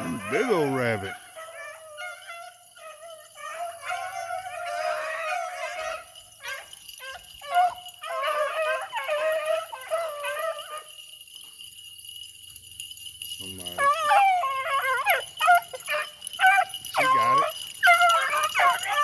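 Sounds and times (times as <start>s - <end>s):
beagles baying: 0.0s - 11.0s, 13.4s - 19.0s.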